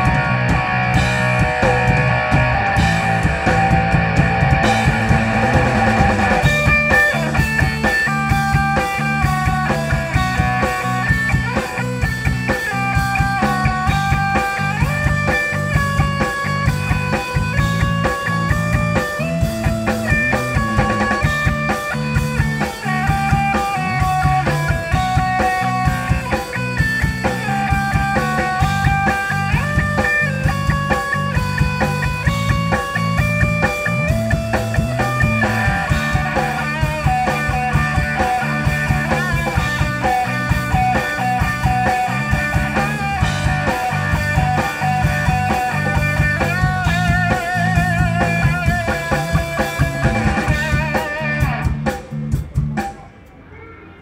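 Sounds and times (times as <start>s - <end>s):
bass: 0.0s - 53.1s
drum kit beat: 0.0s - 53.3s
electric guitar lines: 0.0s - 54.0s.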